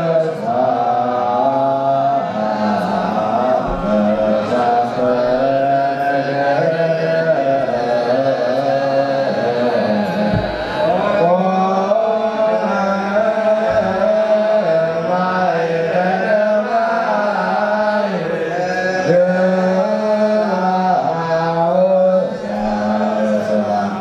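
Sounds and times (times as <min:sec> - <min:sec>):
hymn chanting: 0:00.0 - 0:24.0.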